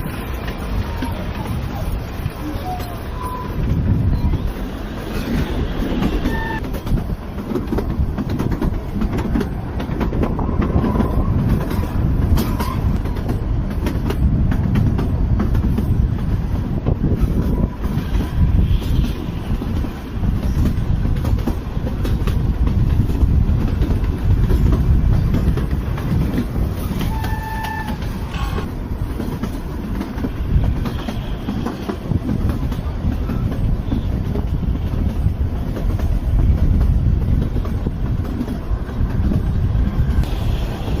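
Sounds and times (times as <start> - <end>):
train rumbling: 0.0 - 41.0.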